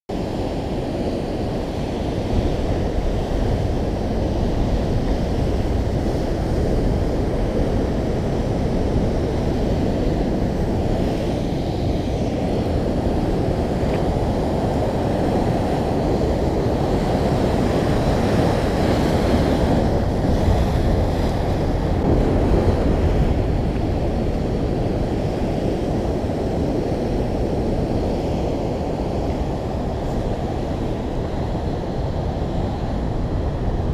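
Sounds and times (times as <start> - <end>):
wind buffeting microphone: 0.1 - 33.9
surf breaking on rocky shore: 0.3 - 33.9.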